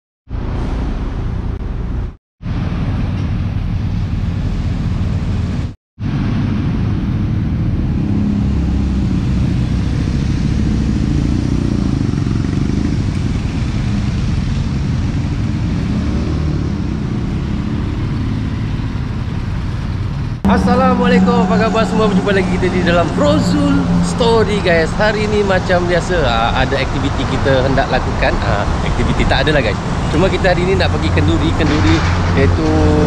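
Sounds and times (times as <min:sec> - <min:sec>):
motor vehicle rumble: 0:00.3 - 0:33.0.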